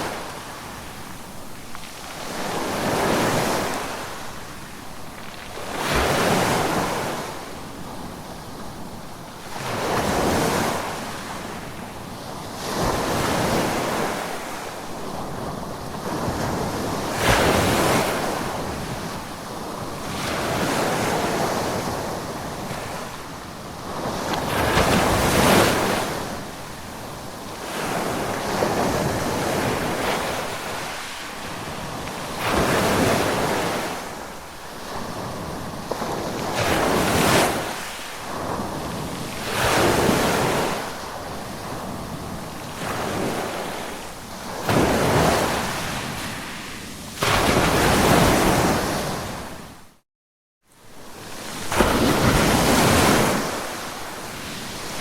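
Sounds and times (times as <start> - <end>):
ocean waves breaking: 9.6 - 49.8, 51.2 - 55.0.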